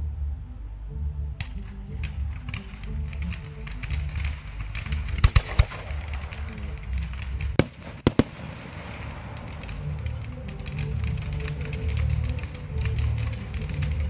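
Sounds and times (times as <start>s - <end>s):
firework crackling: 1.4s - 14.0s
firework shells bursting with bangs: 1.4s - 14.0s.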